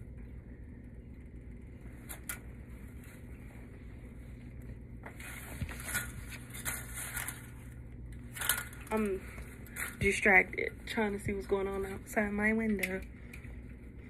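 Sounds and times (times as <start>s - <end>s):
low steady hum: 0.0s - 14.0s
clothing and phone rustling: 1.7s - 14.0s.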